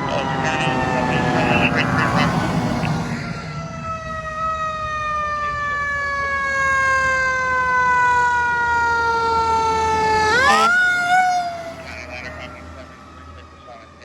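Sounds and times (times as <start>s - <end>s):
fire engine siren wailing: 0.0s - 14.0s.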